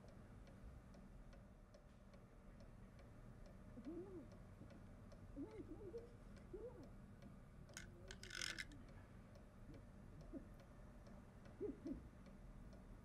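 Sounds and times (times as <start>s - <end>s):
clock ticking faintly: 0.0s - 13.0s.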